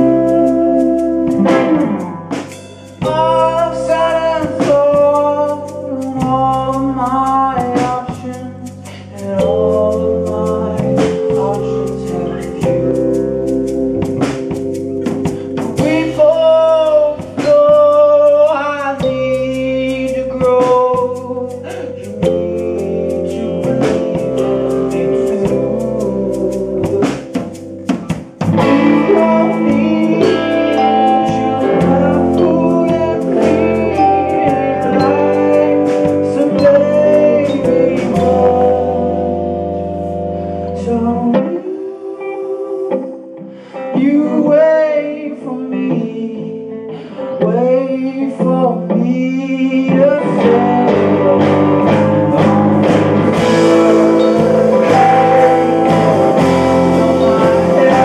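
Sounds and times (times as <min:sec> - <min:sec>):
man singing: 0:00.0 - 0:02.0, 0:02.9 - 0:14.2, 0:15.0 - 0:58.0
drum kit: 0:00.0 - 0:41.7, 0:49.8 - 0:58.0
bass guitar: 0:00.0 - 0:58.0
electric guitars: 0:00.0 - 0:58.0
keyboard: 0:00.0 - 0:58.0.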